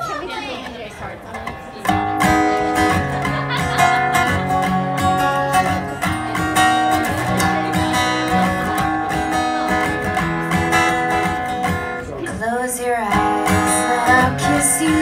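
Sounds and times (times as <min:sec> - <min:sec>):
acoustic guitar strumming chords: 0:01.3 - 0:15.0.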